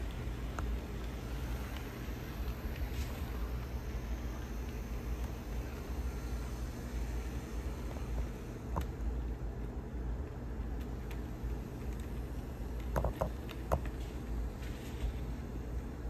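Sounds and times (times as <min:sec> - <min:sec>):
wheels clicking over rail joints: 0:00.0 - 0:15.7
model train rumbling along track: 0:00.0 - 0:16.0.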